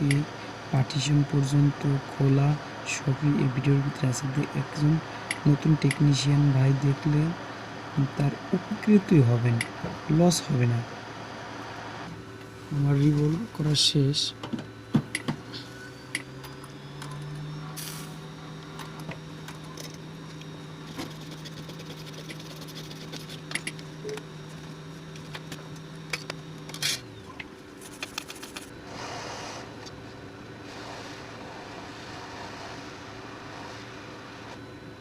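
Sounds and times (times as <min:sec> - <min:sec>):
small electric fan humming: 0:00.0 - 0:35.0.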